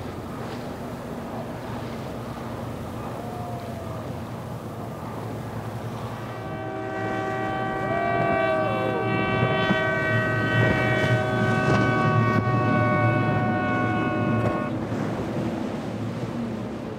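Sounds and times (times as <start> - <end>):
powerboat engines running: 0.0 - 16.9.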